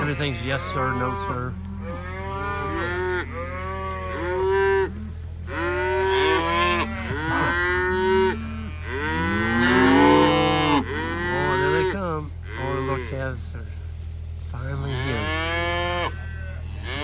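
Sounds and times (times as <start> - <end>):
cows and calves mooing: 0.0 - 13.6, 14.7 - 17.0
steady low hum: 0.0 - 17.0.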